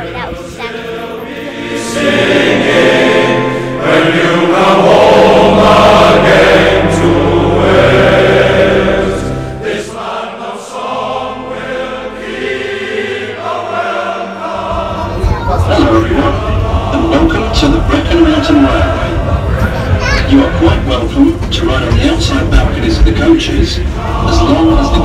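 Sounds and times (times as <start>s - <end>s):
choir singing held notes: 0.0s - 25.0s.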